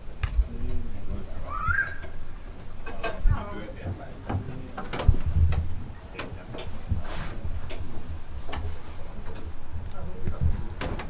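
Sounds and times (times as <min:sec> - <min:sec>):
sharp clicks and knocks: 0:02.0 - 0:11.0.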